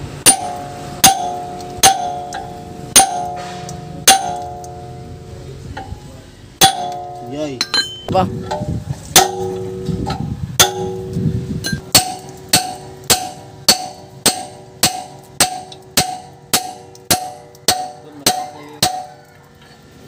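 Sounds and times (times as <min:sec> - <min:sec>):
hammer striking steel tool: 0:00.2 - 0:04.9, 0:06.6 - 0:08.6, 0:09.2 - 0:19.1.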